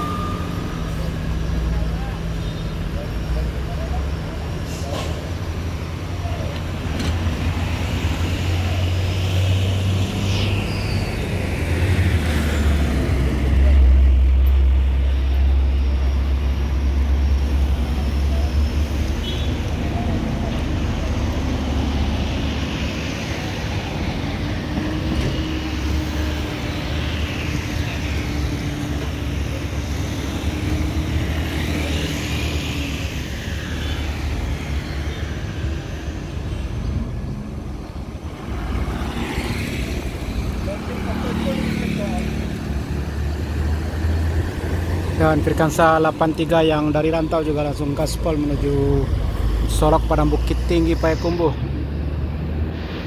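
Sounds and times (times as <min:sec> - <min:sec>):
diesel truck rumbling by: 0:00.0 - 0:53.0
road traffic engine hum: 0:00.0 - 0:53.0.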